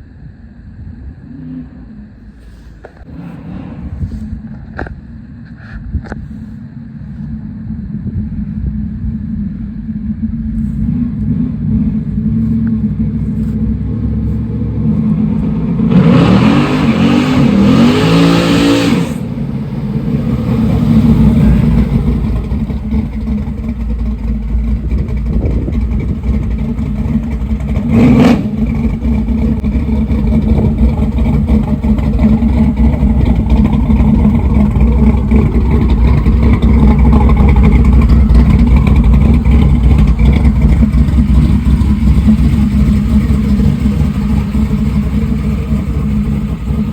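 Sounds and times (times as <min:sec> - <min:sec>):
car engine revving: 0:01.2 - 0:05.6, 0:07.2 - 0:46.9.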